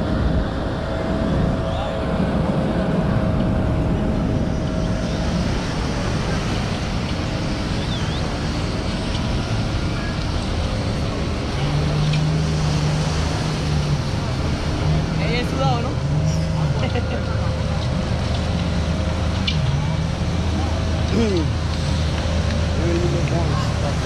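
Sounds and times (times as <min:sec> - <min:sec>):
low steady hum: 0:00.0 - 0:24.0
wind buffeting microphone: 0:00.0 - 0:24.0.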